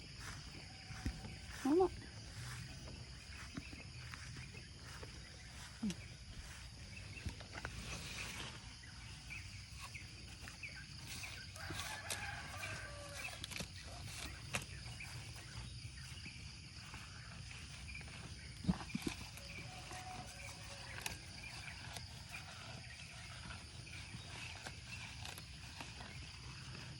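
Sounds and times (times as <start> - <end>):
high drone of insects: 0.0 - 26.9.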